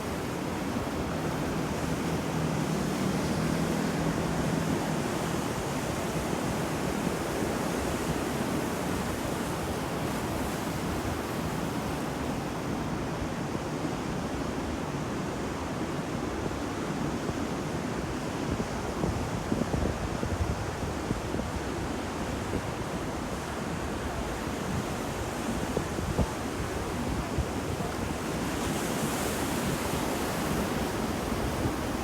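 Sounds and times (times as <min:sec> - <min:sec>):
surf rushing on a beach: 0:00.0 - 0:32.0.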